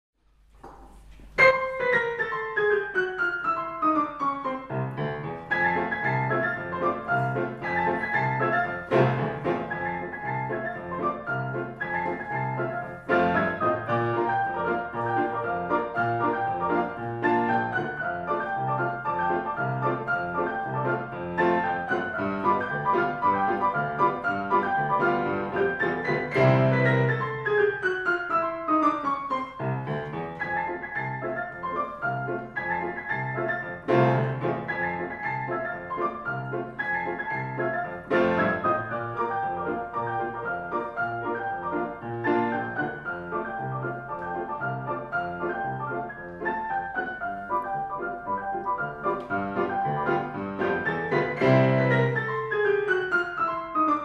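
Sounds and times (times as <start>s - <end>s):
ragtime piano piece: 0.4s - 54.0s.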